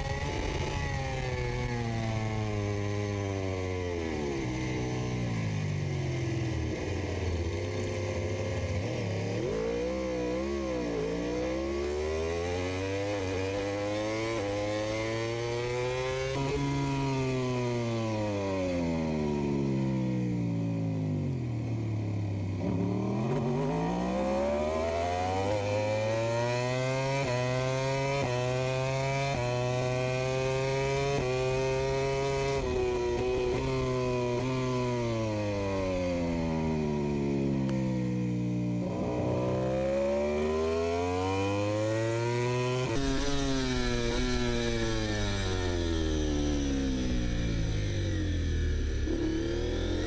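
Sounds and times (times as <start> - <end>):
racing motorcycle engine revving: 0.0 - 50.0.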